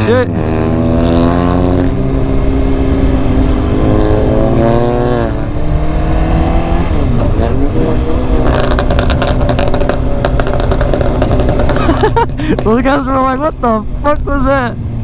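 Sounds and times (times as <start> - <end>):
another engine passing: 0.0 - 15.0
motorcycle engine running: 0.0 - 15.0
wind rush: 0.4 - 14.8.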